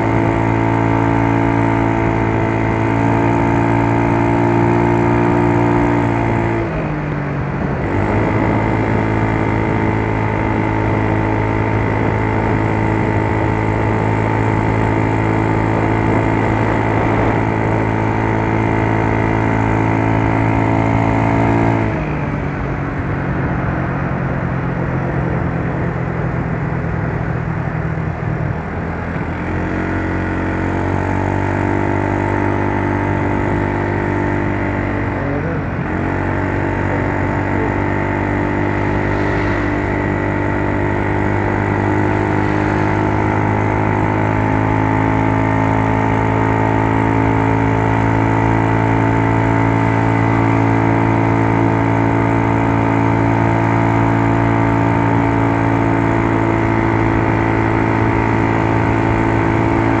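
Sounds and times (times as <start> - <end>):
scooter engine running: 0.0 - 60.0.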